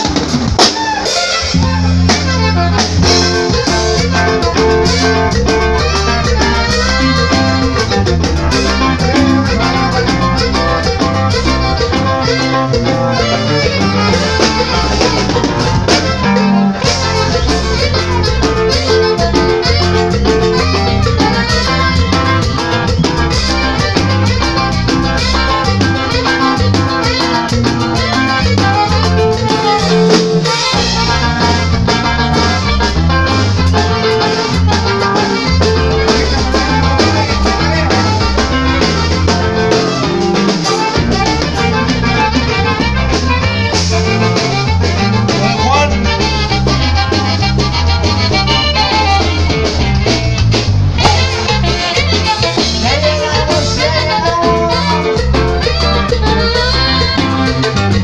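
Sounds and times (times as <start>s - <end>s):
drum kit: 0.0s - 58.0s
live band playing latin dance music: 0.0s - 58.0s.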